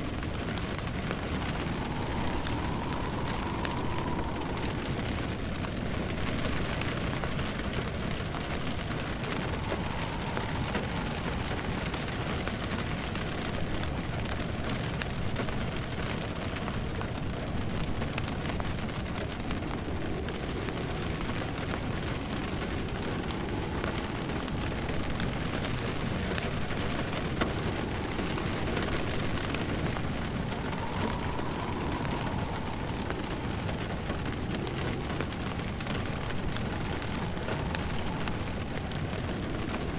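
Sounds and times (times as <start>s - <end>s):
faint wind howl: 0.0s - 39.9s
steady rain falling: 0.0s - 39.9s
wood fire crackling: 0.0s - 39.9s.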